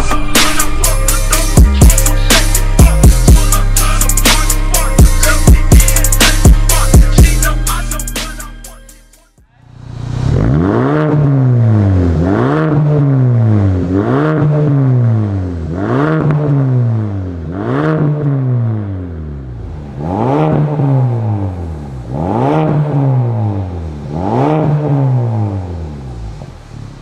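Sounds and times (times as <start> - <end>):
car exhaust revving: 0.0 - 27.0.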